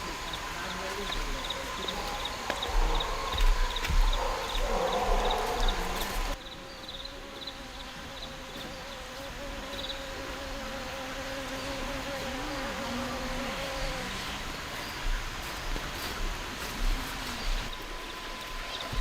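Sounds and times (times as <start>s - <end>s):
flying insect buzzing: 0.0s - 19.0s.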